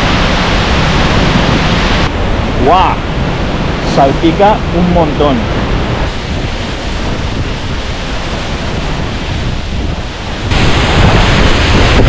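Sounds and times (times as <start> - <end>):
waterfall crashing into pool: 0.0 - 12.0
wind buffeting microphone: 0.0 - 12.0.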